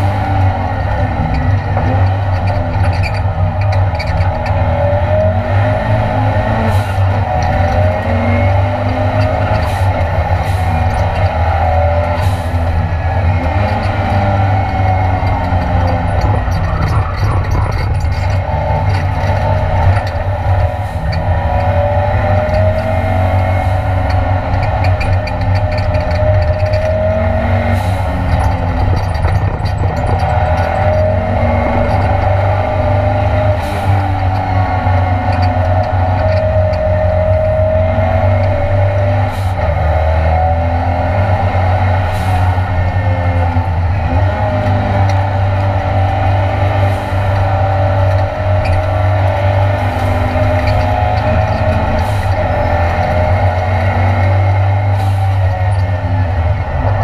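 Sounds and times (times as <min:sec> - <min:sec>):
drivetrain and road drone: 0:00.0 - 0:57.0
race car engine revving: 0:00.0 - 0:57.0.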